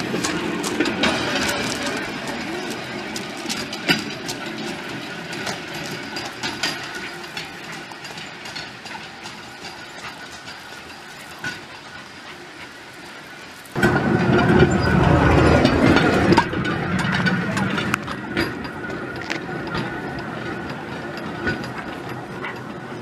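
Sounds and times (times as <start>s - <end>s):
steel cart wheels clacking on rails: 0.0s - 23.0s.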